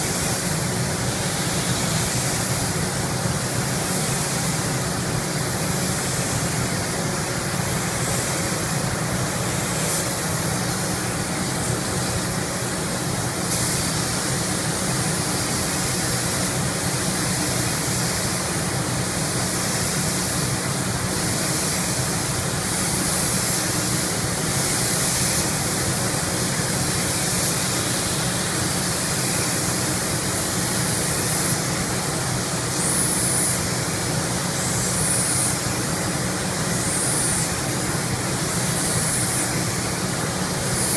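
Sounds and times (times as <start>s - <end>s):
spray gun hissing: 0.0s - 40.9s.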